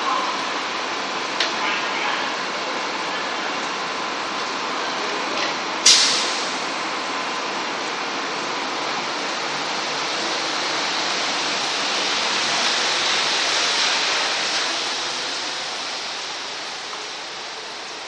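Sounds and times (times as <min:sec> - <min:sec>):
train rushing noise: 0:00.0 - 0:18.0.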